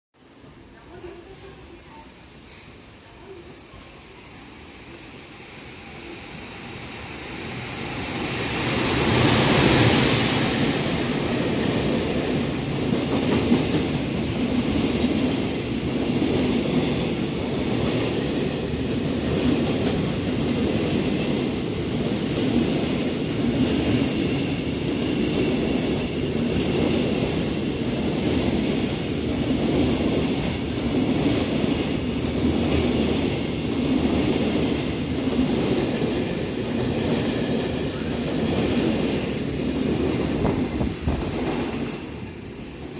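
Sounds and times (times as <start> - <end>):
electric locomotive passing: 0.3 - 42.9.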